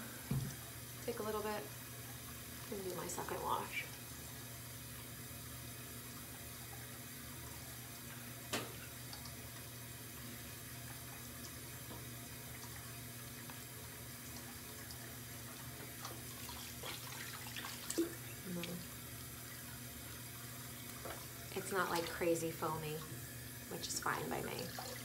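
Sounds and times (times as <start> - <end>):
faucet water running into basin: 0.0 - 25.0.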